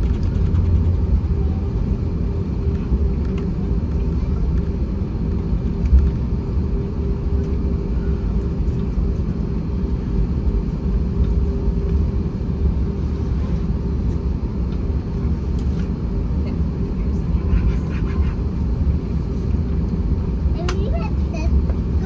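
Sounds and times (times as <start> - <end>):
jet engines heard from cabin: 0.0 - 22.0.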